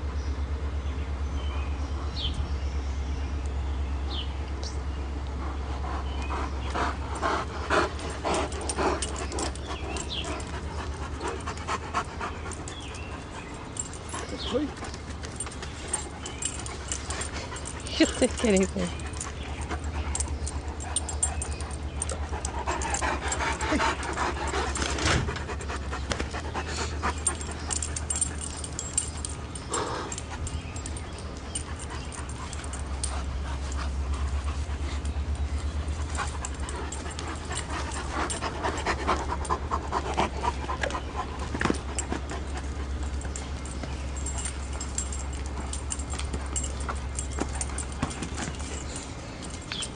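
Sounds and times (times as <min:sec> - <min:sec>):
dogs panting and playing: 0:00.0 - 0:49.9
steady low hum: 0:00.0 - 0:49.9.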